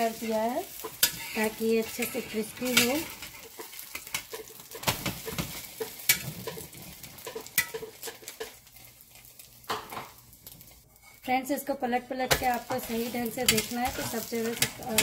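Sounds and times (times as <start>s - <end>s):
metal spatula scraping a pan: 0.0s - 9.3s, 10.6s - 11.4s, 12.2s - 15.0s
flatbread sizzling in oil: 0.0s - 11.3s, 12.3s - 15.0s.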